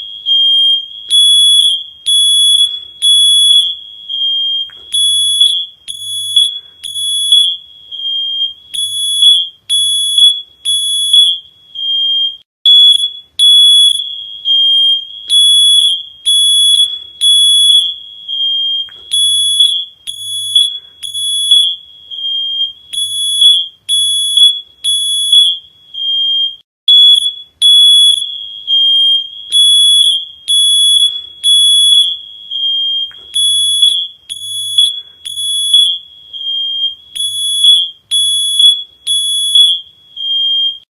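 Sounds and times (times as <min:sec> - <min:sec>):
high-pitched alarm beeping: 0:00.0 - 0:40.9.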